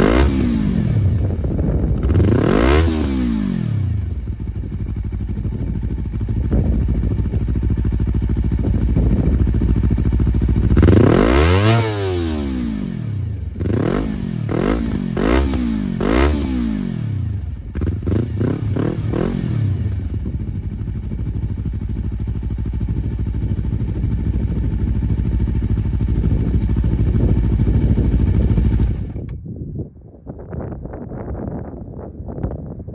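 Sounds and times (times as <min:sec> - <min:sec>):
motorcycle engine idling and revving: 0:00.0 - 0:29.4.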